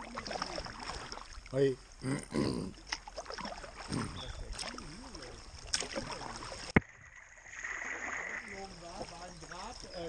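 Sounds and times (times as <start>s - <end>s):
paddle splashing water: 0.0s - 1.6s, 2.7s - 10.0s
water lapping along hull: 0.0s - 2.0s, 2.7s - 10.0s.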